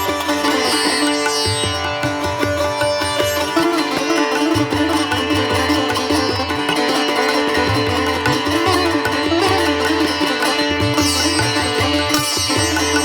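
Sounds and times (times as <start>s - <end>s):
plucked-string melody: 0.0s - 13.0s.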